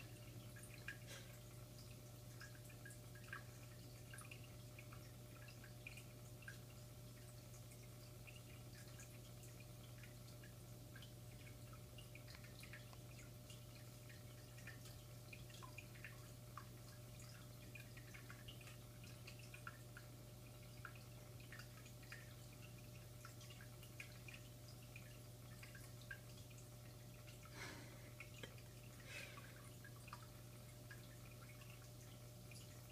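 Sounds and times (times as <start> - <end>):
low steady hum: 0.0 - 32.9
water drips and trickles: 0.0 - 32.9.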